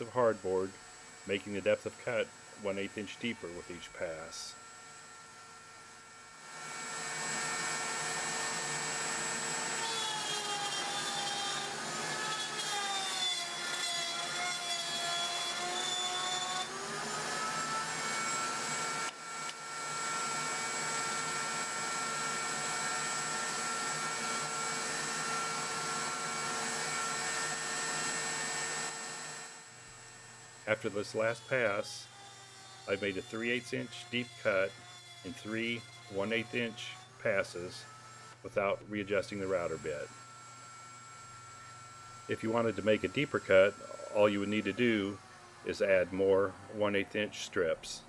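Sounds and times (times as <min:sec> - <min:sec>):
router whining while cutting wood: 0:00.0 - 0:47.5.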